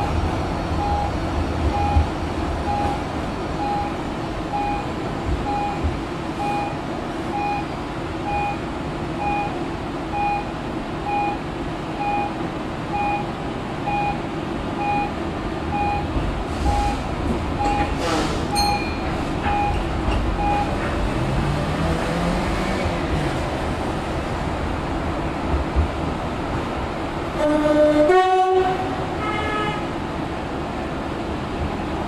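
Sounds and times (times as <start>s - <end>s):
tram motors and wheels rumbling: 0.0s - 32.0s.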